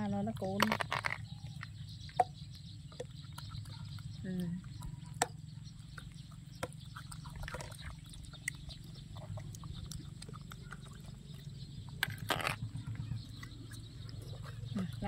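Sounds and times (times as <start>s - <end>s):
low steady hum: 0.0s - 15.0s
small eating sounds: 0.0s - 15.0s.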